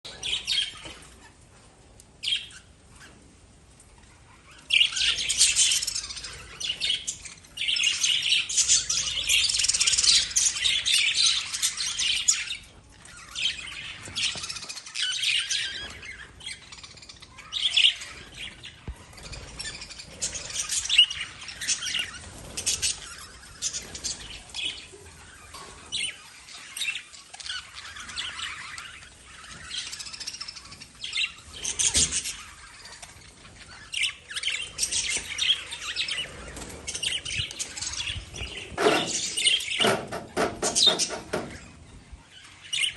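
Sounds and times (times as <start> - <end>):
lovebirds chirping and chattering: 0.0 - 42.9.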